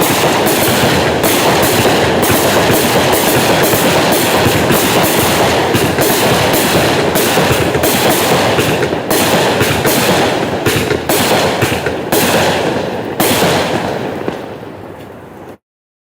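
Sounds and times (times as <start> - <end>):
fireworks barrage with crackle: 0.0 - 15.6.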